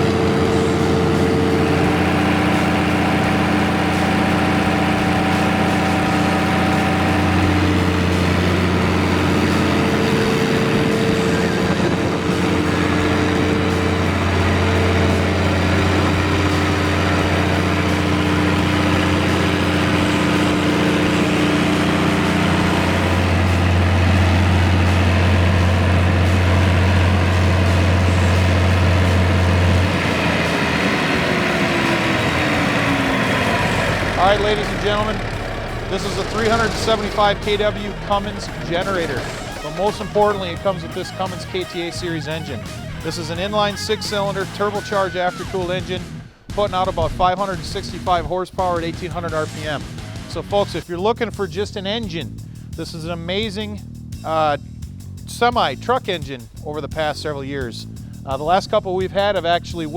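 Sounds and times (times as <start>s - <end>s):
diesel generator engine humming: 0.0s - 59.9s.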